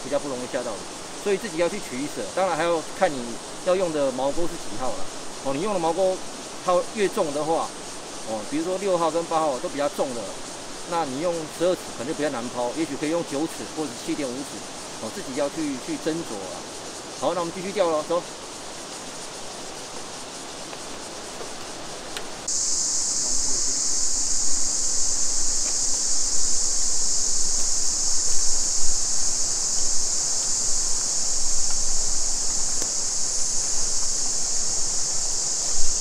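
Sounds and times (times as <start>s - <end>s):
cicadas buzzing: 0.0s - 36.0s.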